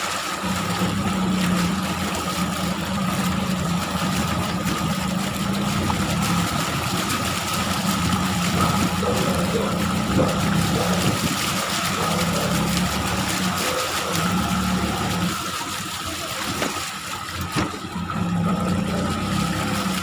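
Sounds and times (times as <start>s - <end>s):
motor running steadily: 0.0s - 20.0s
water rushing and splashing: 0.0s - 20.0s.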